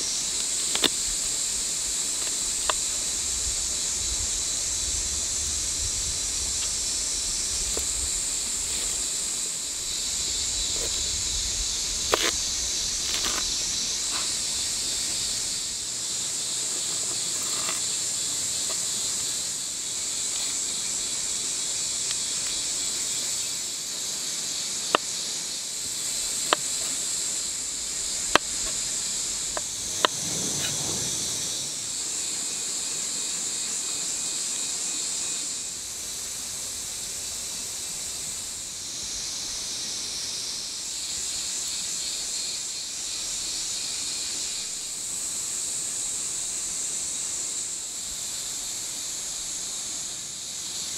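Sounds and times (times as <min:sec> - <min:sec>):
steady high hiss: 0:00.0 - 0:50.9.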